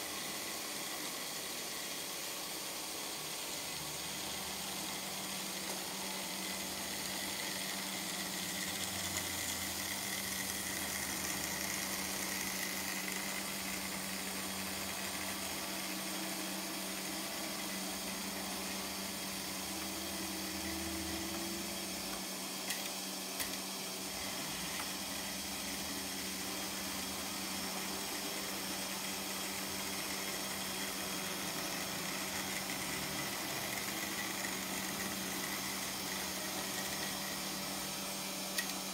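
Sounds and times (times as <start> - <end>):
model train motor hum: 0.0 - 38.9.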